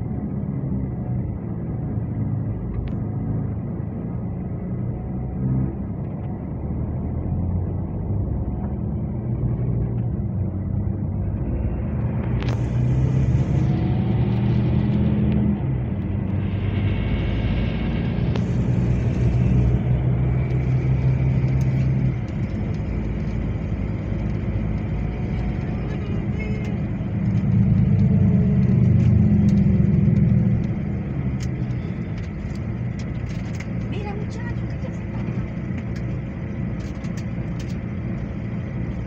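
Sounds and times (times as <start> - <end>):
bus engine and road noise: 0.0 - 39.0.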